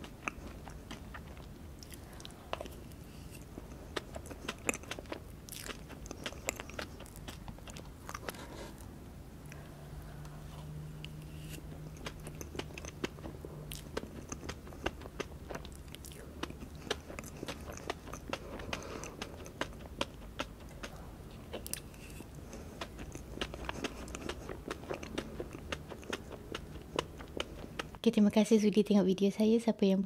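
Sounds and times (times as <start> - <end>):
chewing with wet mouth clicks: 0.0 - 8.5, 11.0 - 28.0
low steady hum: 0.0 - 30.0.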